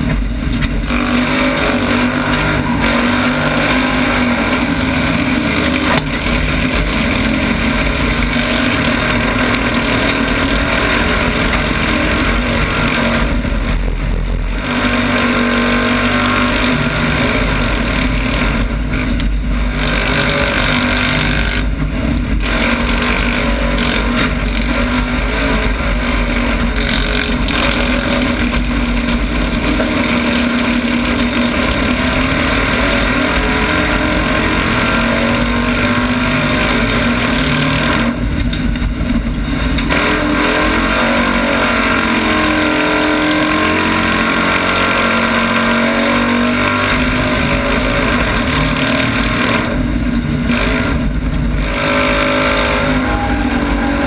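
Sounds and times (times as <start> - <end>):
engine running hard under load: 0.0 - 54.0.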